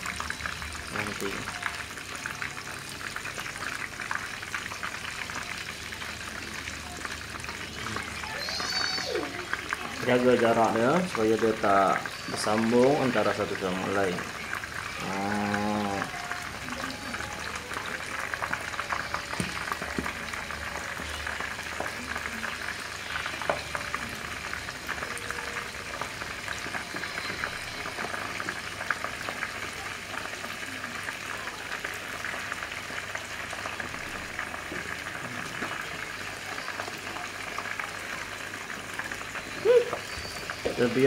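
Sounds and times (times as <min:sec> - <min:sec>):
squid deep-frying in oil: 0:00.0 - 0:41.0.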